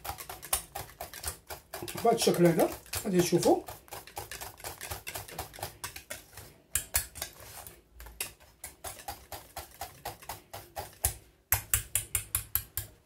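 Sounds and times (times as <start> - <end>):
whisk clicking against metal pot: 0.0 - 7.4, 8.0 - 13.0.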